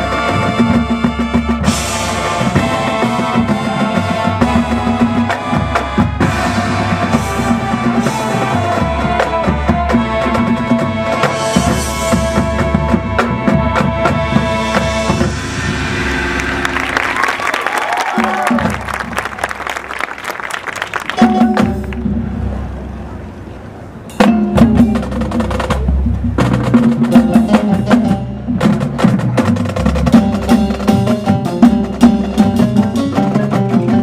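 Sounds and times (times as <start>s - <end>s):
drumline hits: 0.0s - 23.3s, 24.1s - 34.0s
marching band playing: 0.0s - 34.0s.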